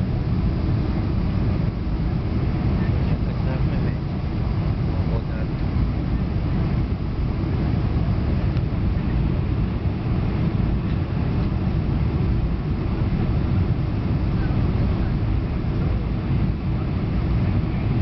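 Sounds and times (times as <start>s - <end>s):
airplane engines rumbling in cabin: 0.0s - 18.0s.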